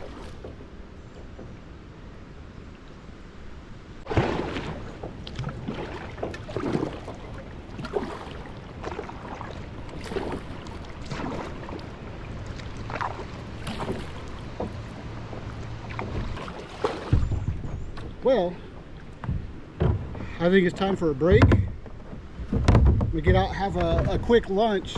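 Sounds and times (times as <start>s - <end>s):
paddle splashing in water: 0.0s - 1.8s, 4.0s - 24.9s.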